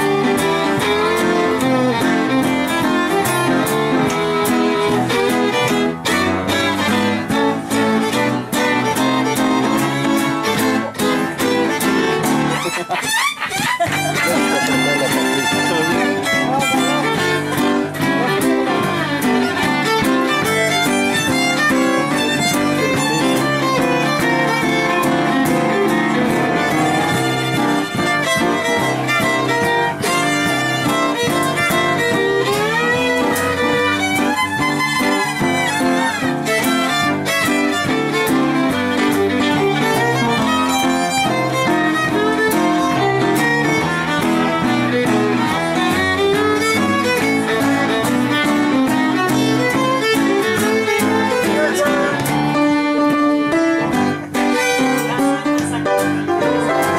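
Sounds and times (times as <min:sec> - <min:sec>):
fiddle playing swing tune: 0:00.0 - 0:56.9
piano accompaniment: 0:00.0 - 0:56.9
strummed acoustic guitar: 0:00.0 - 0:56.9.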